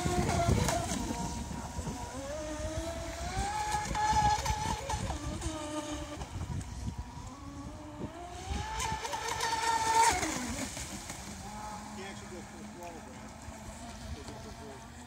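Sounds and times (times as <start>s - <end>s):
rc boat motor whine: 0.0s - 15.0s.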